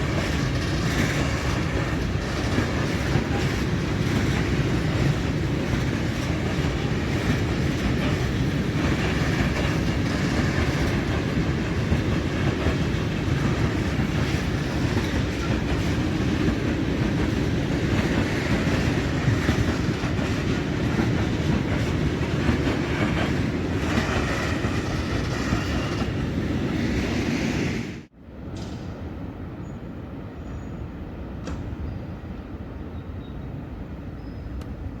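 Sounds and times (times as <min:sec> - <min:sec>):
freight train rumble: 0:00.0 - 0:35.0.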